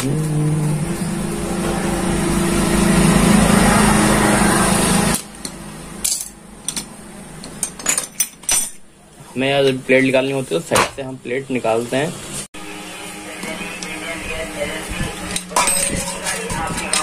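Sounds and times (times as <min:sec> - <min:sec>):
mechanical drone with hum: 0:00.0 - 0:09.0, 0:12.1 - 0:17.0.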